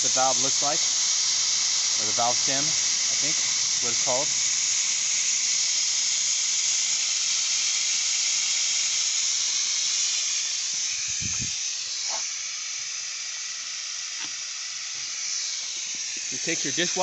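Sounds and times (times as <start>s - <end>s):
air hissing out of a tyre: 0.0s - 17.0s.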